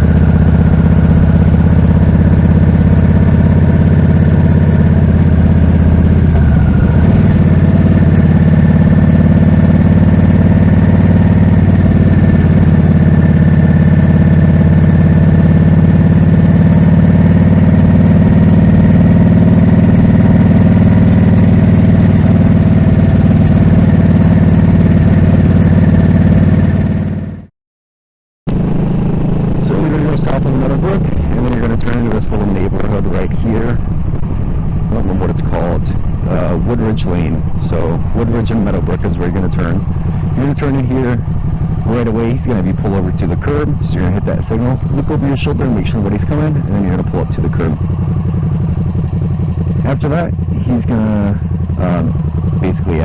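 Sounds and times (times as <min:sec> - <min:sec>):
motorcycle engine running: 0:00.0 - 0:27.5, 0:28.5 - 0:53.0.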